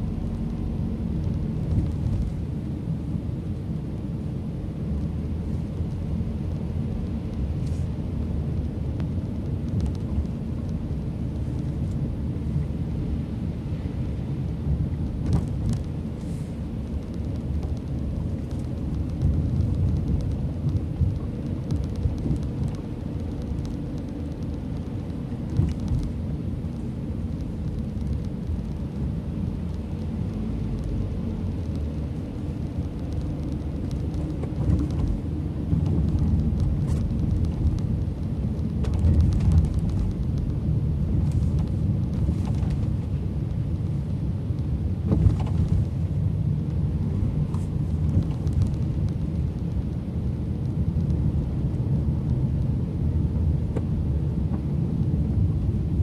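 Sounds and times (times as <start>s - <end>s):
tyres and engine rumble: 0.0s - 56.0s.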